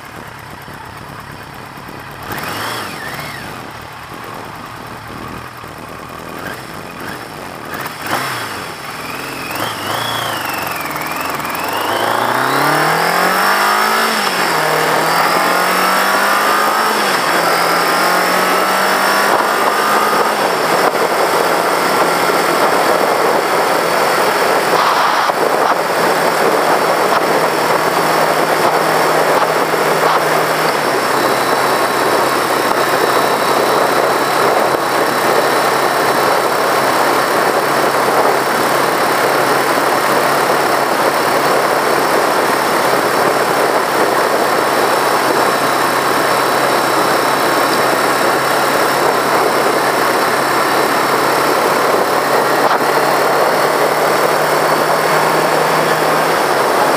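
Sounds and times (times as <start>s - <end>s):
motorcycle engine cruising: 0.0s - 56.9s
wind and road rush: 0.0s - 56.9s.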